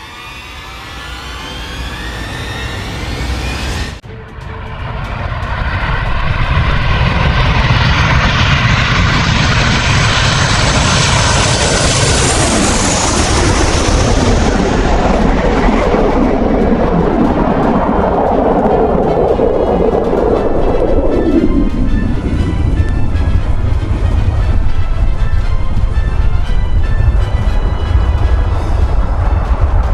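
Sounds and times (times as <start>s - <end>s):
fighter jet engine roar: 0.0s - 29.9s
high jet whine: 0.0s - 29.9s.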